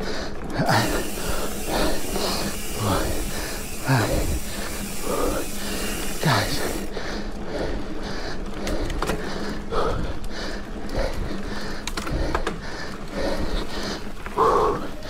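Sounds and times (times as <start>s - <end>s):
person breathing hard: 0.0s - 15.0s
steady low hum: 0.0s - 15.0s.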